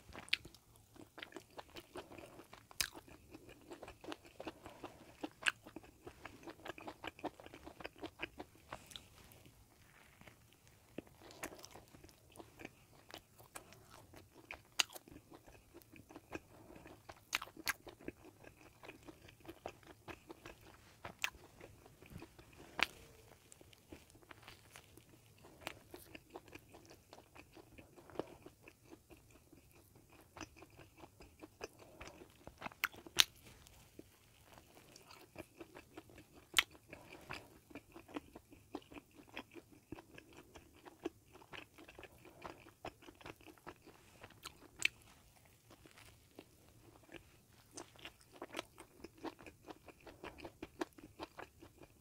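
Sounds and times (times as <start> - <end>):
chewing and biting sandwich: 0.0 - 52.0.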